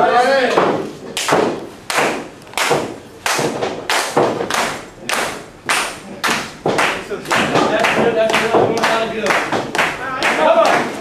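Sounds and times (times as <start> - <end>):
rhythmic echoing thuds: 0.4 - 11.0.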